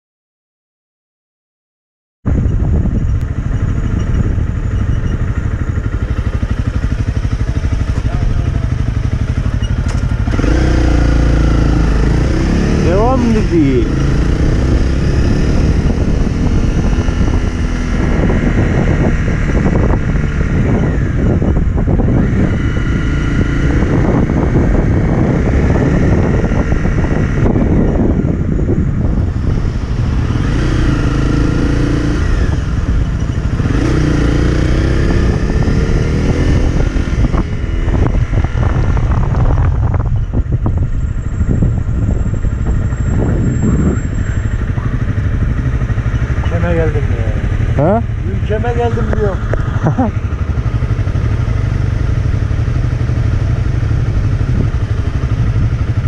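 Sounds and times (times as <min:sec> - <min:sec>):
motorcycle engine: 0:02.3 - 0:56.0
wind on microphone: 0:02.3 - 0:56.0.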